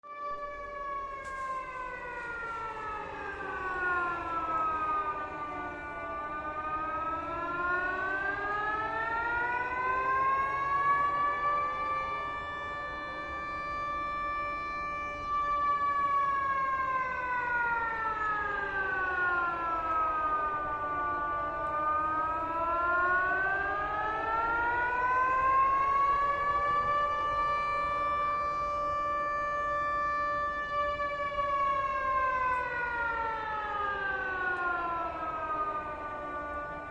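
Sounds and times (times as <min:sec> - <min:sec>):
warning siren wailing: 0:00.0 - 0:36.9.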